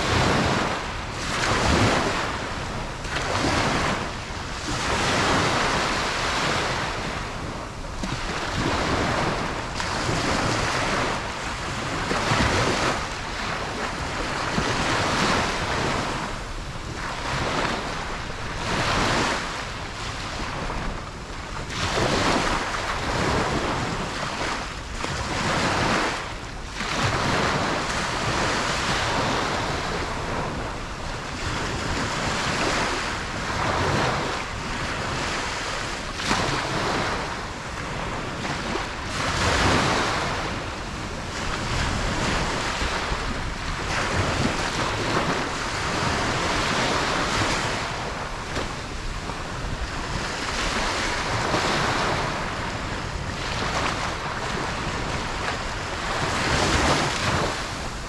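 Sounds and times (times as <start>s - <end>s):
ocean waves breaking on beach: 0.0s - 58.0s
wind on microphone: 0.0s - 58.0s.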